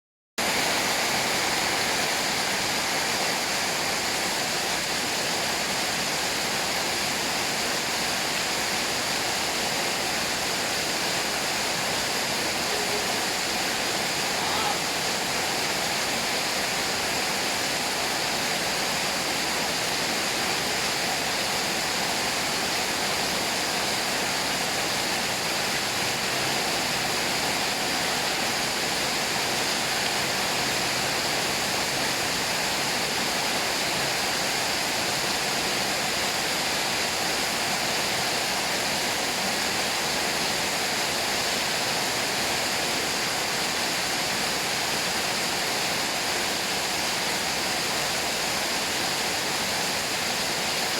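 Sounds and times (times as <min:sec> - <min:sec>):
running water rushing: 0:00.4 - 0:50.9.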